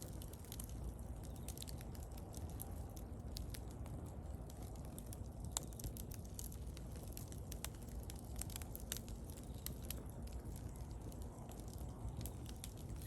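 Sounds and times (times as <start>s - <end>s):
bonfire crackling and popping: 0.0s - 13.0s
low rush of flame: 0.0s - 13.0s.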